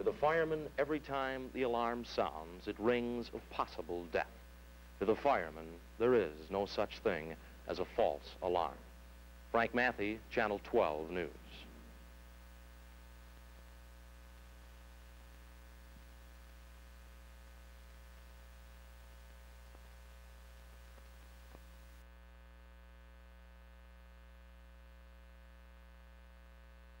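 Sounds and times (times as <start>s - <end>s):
faint hiss: 0.0s - 27.0s
low mains hum: 0.0s - 27.0s.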